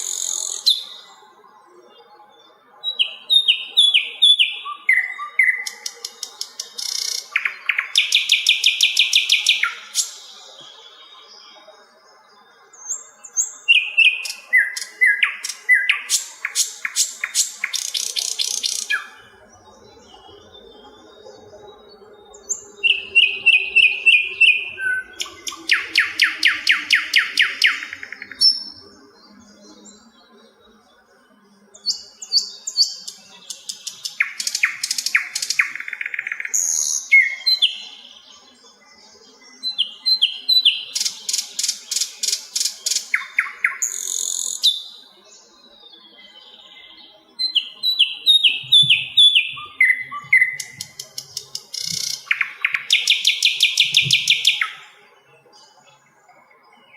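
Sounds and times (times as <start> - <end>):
flycatcher singing: 0.0 - 56.9.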